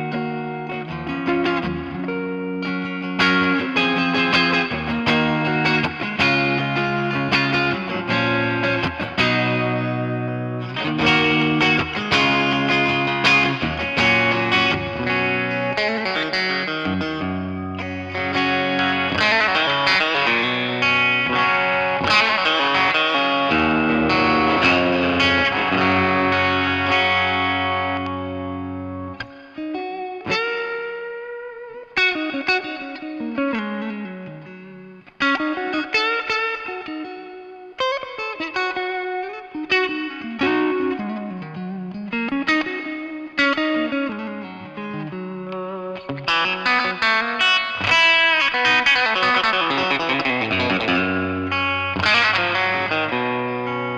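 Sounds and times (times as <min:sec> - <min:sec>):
electric guitar playing: 0:00.0 - 0:53.9.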